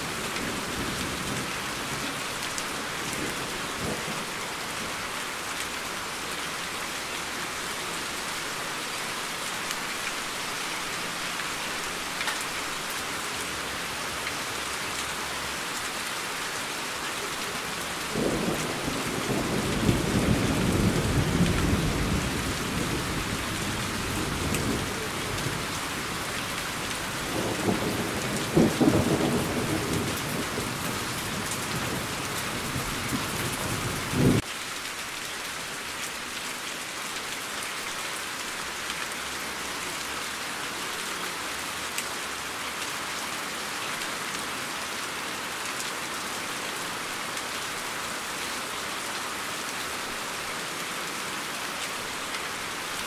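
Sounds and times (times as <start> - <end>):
rain hiss: 0.0 - 53.0.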